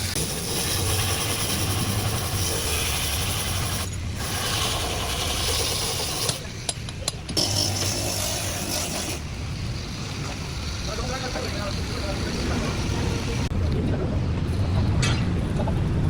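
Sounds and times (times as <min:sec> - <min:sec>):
rough mechanical noise: 0:00.0 - 0:13.7.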